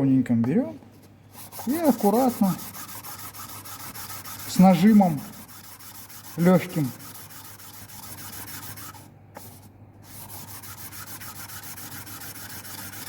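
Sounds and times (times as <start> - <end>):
metal rubbing on sandpaper: 1.3 - 13.0.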